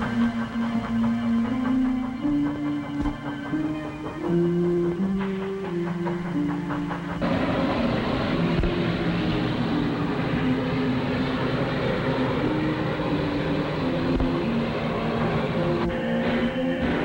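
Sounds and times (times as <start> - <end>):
held musical notes: 0.0 - 17.0
train rumbling and clattering: 0.0 - 17.0.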